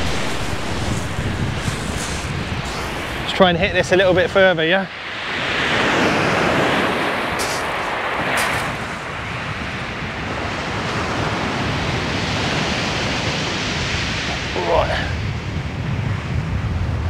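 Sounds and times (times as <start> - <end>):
surf breaking on shingle beach: 0.0 - 14.8
wind buffeting microphone: 0.0 - 17.0.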